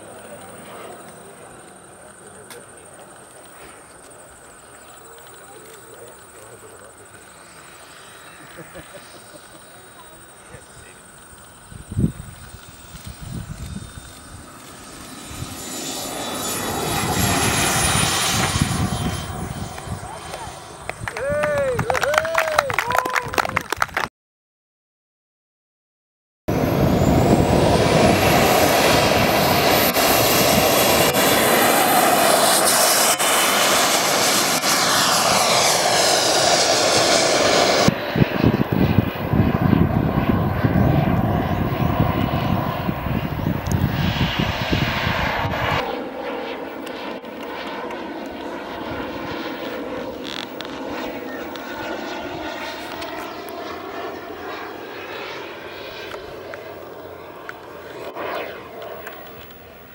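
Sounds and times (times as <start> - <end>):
model jet turbines whining: 0.0 - 22.6, 26.5 - 59.9
jet flying past: 0.0 - 23.5, 26.5 - 59.9.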